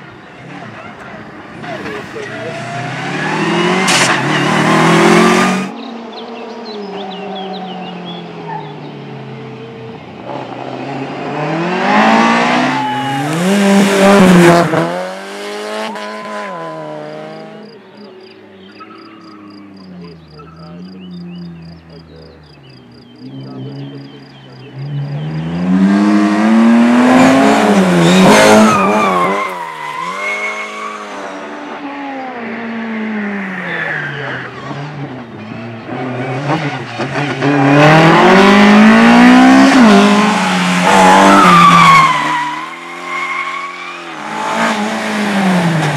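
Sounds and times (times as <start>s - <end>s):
distant car revving: 0.0s - 45.9s
rally car engines revving: 0.0s - 45.9s.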